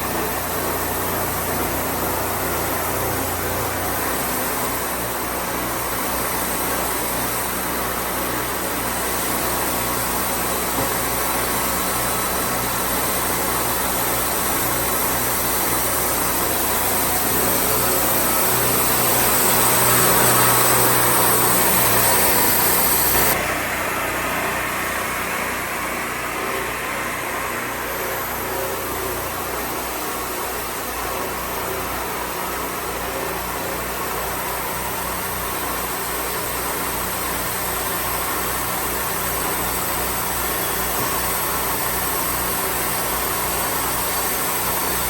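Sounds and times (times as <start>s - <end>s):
band sawmill running: 0.0s - 45.0s.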